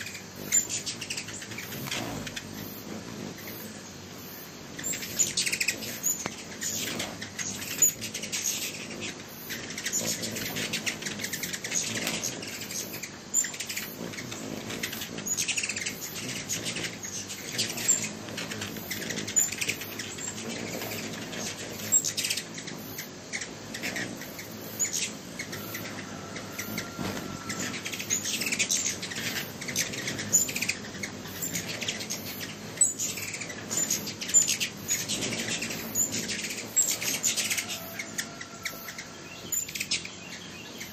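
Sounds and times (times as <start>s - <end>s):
hummingbirds chipping and squeaking: 0.0s - 40.9s.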